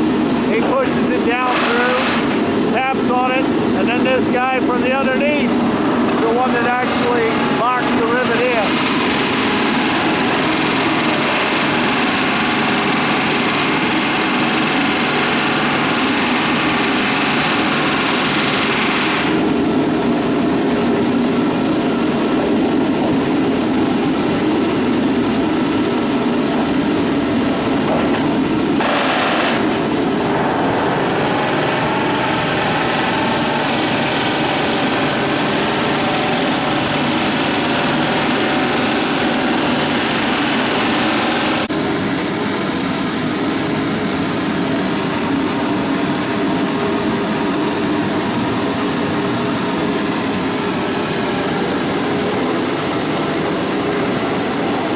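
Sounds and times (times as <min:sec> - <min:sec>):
riveting machinery noise: 0:00.0 - 0:54.9.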